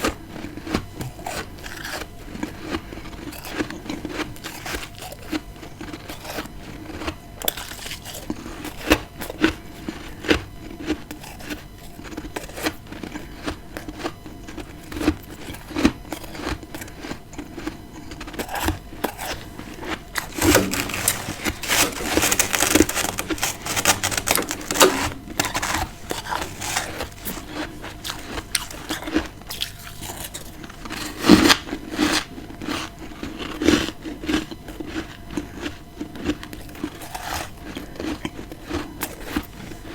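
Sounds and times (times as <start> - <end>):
crunching frost while chewing: 0.0 - 39.9.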